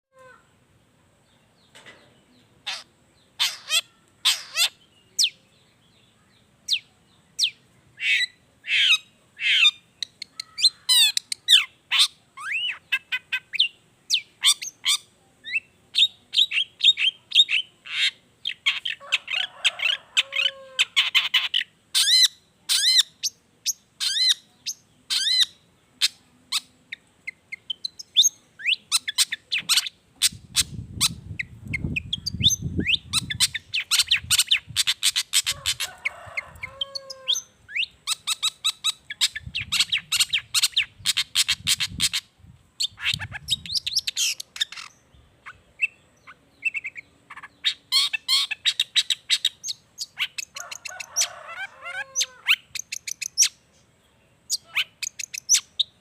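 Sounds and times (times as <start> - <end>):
bird singing varied song: 0.1 - 56.0.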